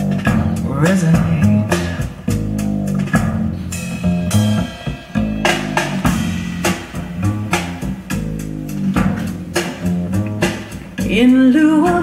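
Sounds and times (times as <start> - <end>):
bass guitar: 0.0 - 12.0
drum kit hits: 0.0 - 12.0
rock blues music through speakers: 0.0 - 12.0.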